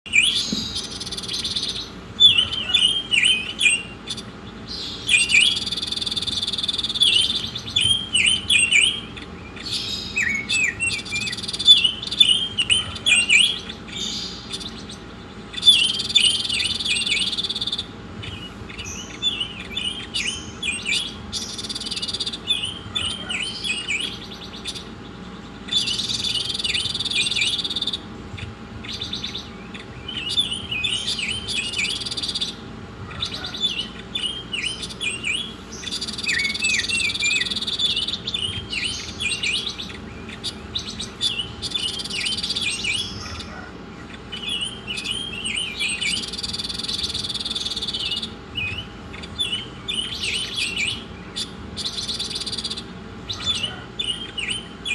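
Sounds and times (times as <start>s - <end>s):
songbird chirping: 0.0s - 54.9s
high buzzing bird trill: 0.1s - 54.9s.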